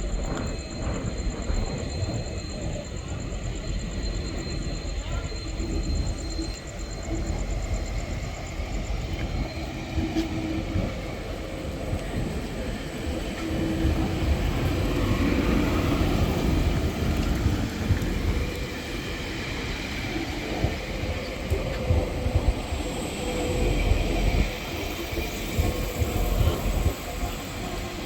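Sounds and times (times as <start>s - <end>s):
faint steady tones: 0.0s - 28.0s
train rail rumble: 0.0s - 28.0s.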